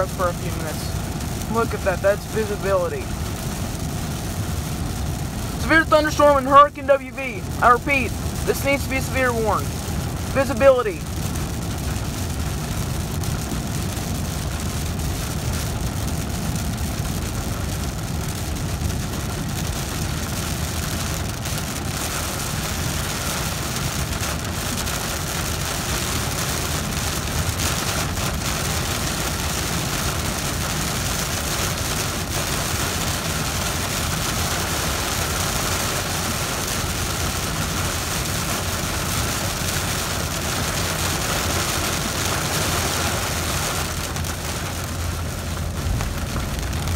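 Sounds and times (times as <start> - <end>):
engine and tyres rumbling: 0.0 - 46.9
heavy rain on truck roof: 0.0 - 46.9.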